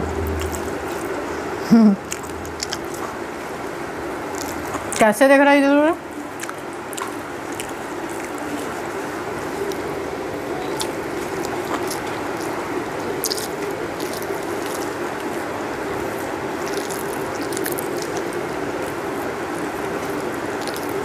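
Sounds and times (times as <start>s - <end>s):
steady mechanical hum: 0.0s - 21.0s
chewing: 0.2s - 1.3s, 2.0s - 5.3s, 6.0s - 21.0s.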